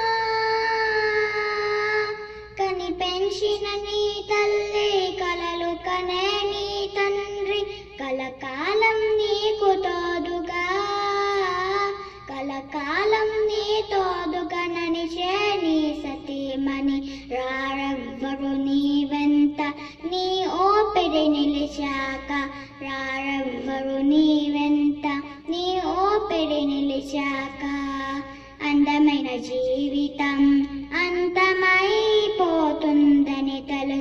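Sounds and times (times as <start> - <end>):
girl singing: 0.0 - 34.0.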